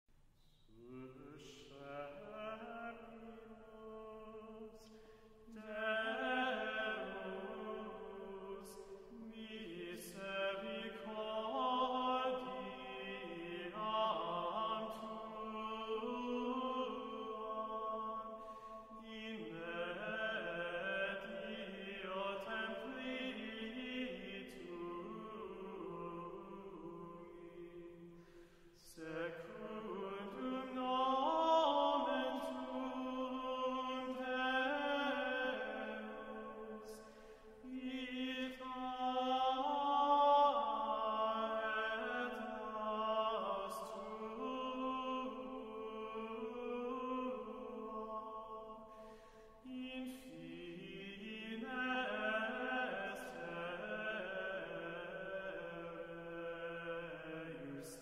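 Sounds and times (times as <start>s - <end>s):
slow sung chant: 0.4s - 58.0s.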